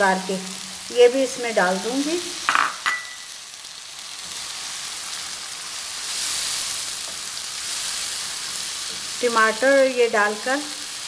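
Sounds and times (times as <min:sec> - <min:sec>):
tomato sizzling in hot oil: 0:00.0 - 0:11.0.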